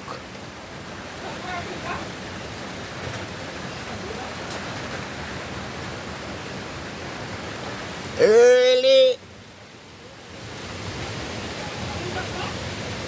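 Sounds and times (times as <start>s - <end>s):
strong storm wind: 0.0s - 13.0s.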